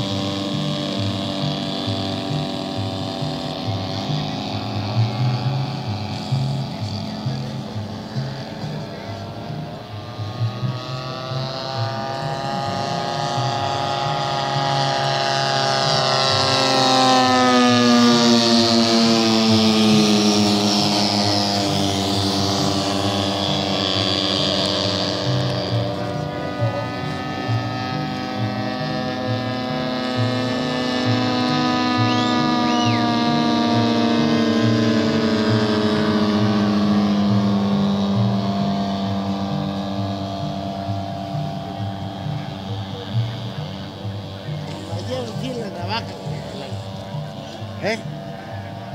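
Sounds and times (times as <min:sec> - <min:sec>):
model airplane engine in flight: 0:00.0 - 0:48.9.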